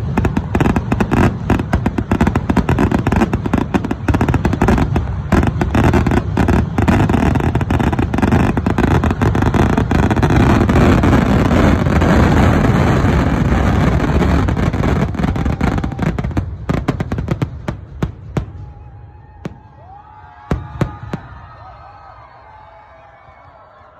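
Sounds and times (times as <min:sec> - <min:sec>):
firework bangs crackling: 0:00.0 - 0:21.5.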